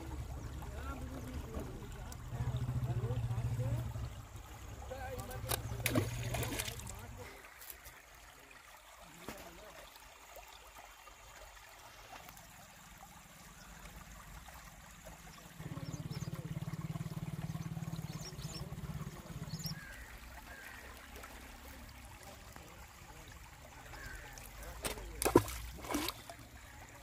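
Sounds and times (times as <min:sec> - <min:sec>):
river water trickling and lapping: 0:00.0 - 0:27.0.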